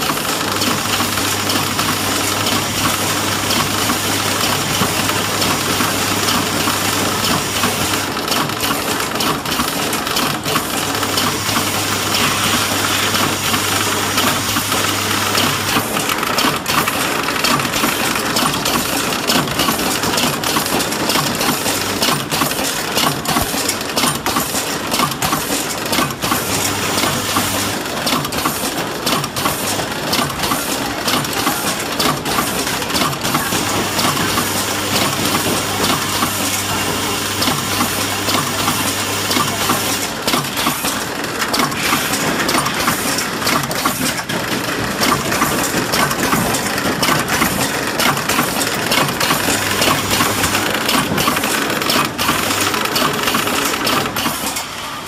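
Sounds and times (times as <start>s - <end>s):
wrapping machine clattering: 0.0s - 54.9s.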